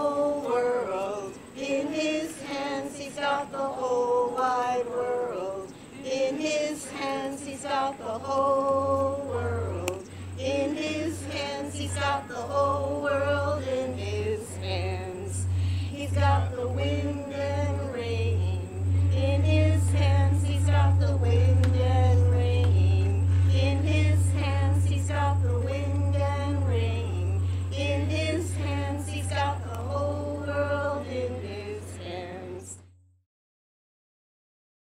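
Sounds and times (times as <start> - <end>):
women singing slow melody: 0.0 - 32.9
steady low hum: 0.0 - 33.0.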